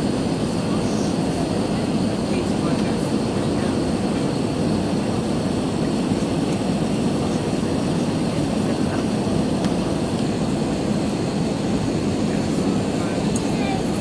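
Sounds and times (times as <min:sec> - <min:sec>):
airliner cabin engine rush: 0:00.0 - 0:14.0.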